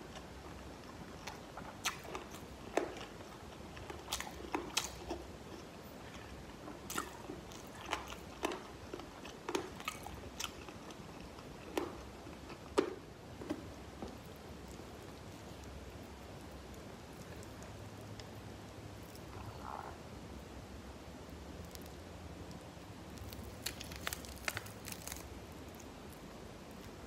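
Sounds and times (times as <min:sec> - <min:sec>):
crunchy chewing: 0:00.0 - 0:20.1, 0:21.5 - 0:27.0.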